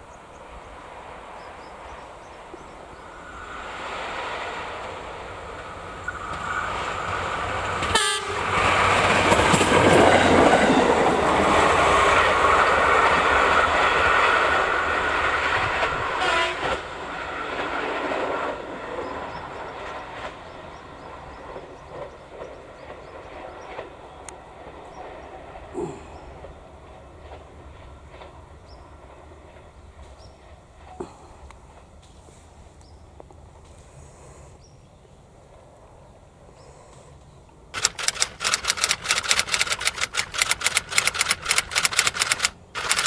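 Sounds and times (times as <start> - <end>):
train wheels clattering on rails: 0.8 - 32.4, 37.8 - 43.0.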